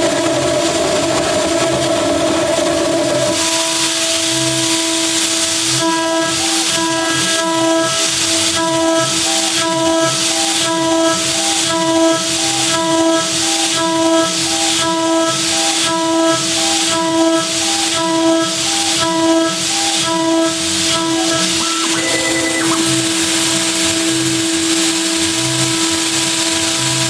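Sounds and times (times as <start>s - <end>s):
spindle high whine: 0.0s - 27.0s.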